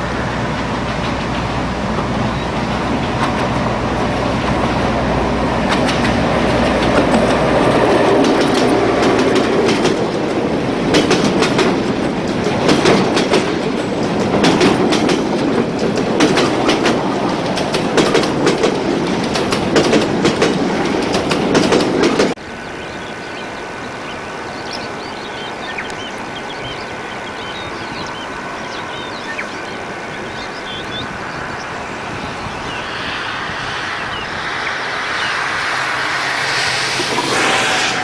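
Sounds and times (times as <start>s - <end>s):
train wagons clattering past: 0.0s - 22.4s, 26.6s - 38.0s.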